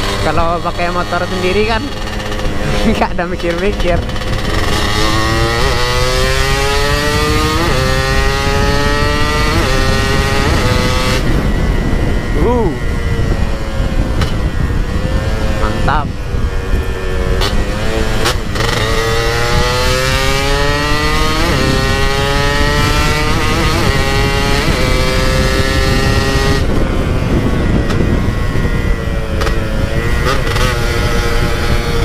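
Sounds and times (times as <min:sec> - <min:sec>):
scooter engine accelerating: 0:00.0 - 0:32.0
wind rushing over microphone: 0:00.0 - 0:32.0.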